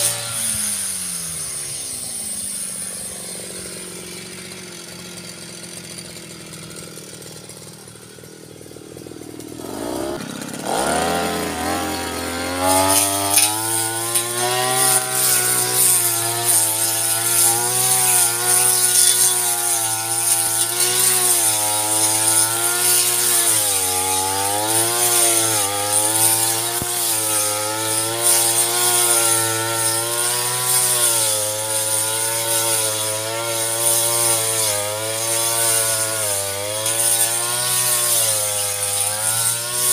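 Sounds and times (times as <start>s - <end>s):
brush cutter engine revving: 0.0s - 39.9s.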